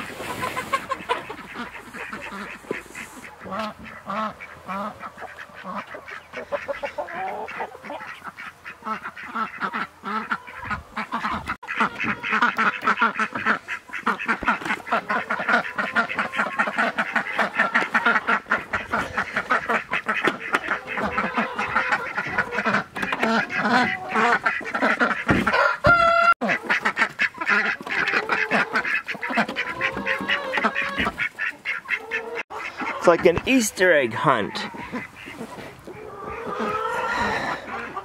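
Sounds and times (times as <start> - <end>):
ducks quacking: 0.0 - 38.0.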